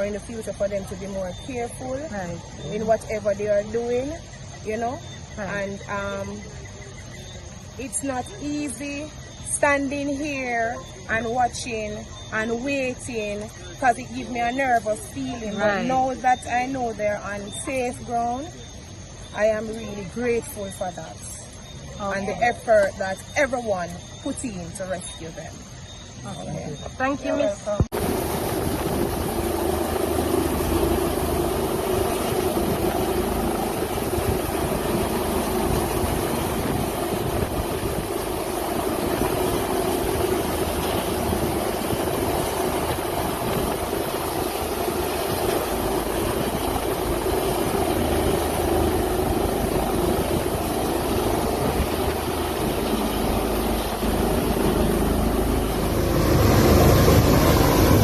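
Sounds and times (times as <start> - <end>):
engine humming steadily: 0.0 - 58.0.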